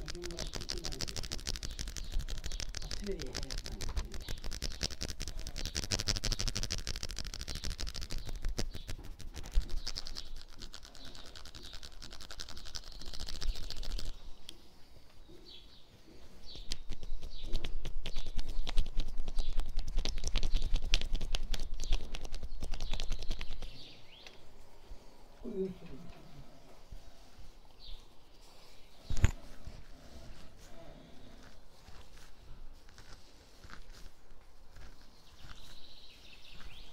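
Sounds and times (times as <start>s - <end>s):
birds chirping: 0.0s - 32.5s, 34.8s - 36.9s.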